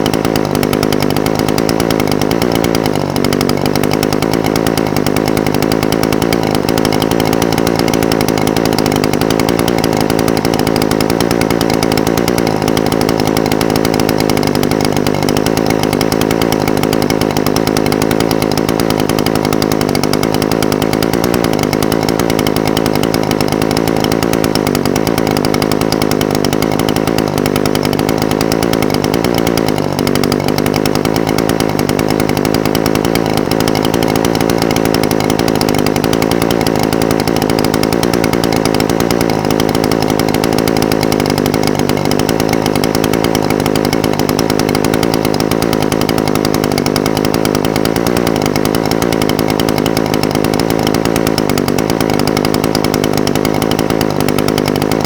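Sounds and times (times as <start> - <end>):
brush cutter engine idling: 0.0 - 55.0.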